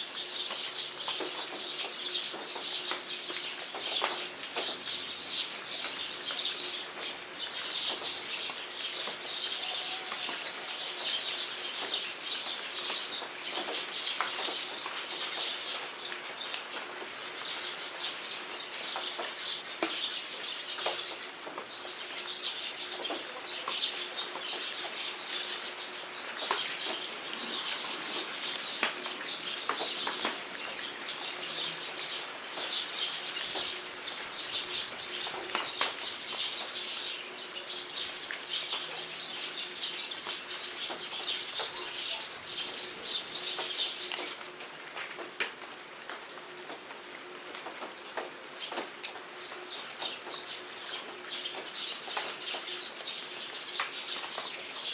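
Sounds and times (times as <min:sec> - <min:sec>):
songbirds chirping: 0:00.0 - 0:44.6, 0:46.0 - 0:54.9
rain pattering: 0:00.0 - 0:54.9.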